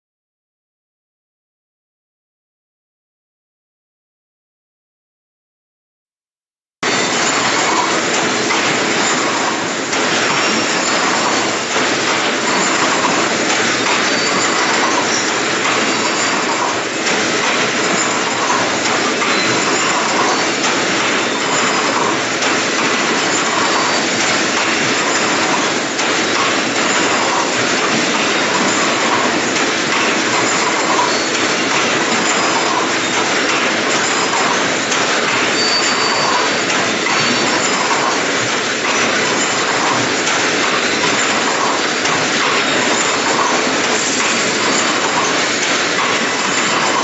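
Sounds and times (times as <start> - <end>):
fence weaving machine running: 6.8 - 47.0.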